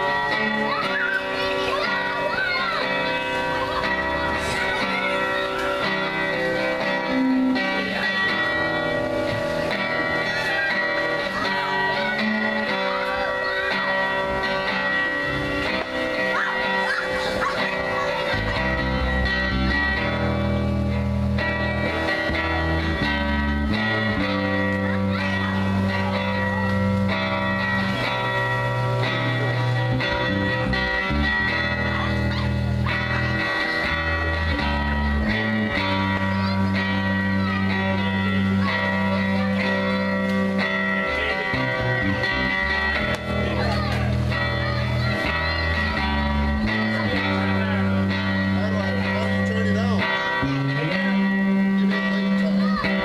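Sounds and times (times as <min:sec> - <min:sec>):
electric guitars playing: 0:00.0 - 0:53.0
long held bass notes: 0:00.0 - 0:53.0.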